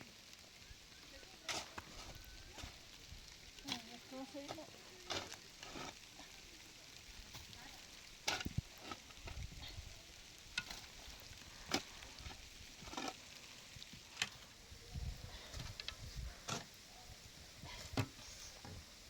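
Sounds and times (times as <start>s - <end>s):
faint frying: 0.0s - 19.0s
utensil stirring in a pan: 0.2s - 19.0s.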